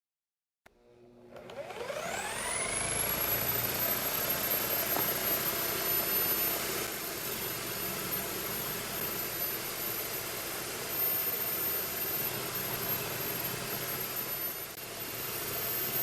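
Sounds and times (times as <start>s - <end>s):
disc sander motor whine: 0.8s - 16.0s.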